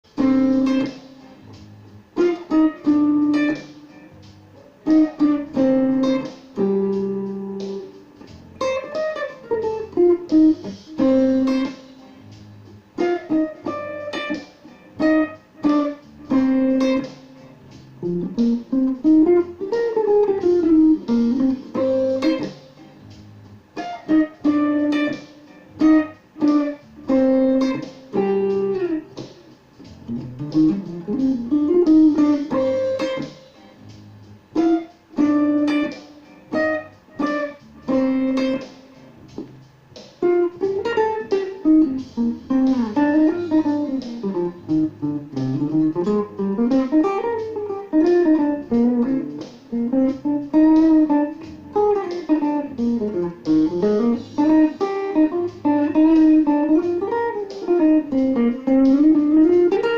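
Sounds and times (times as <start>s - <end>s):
electric guitar with chorus effect: 0.1s - 59.9s.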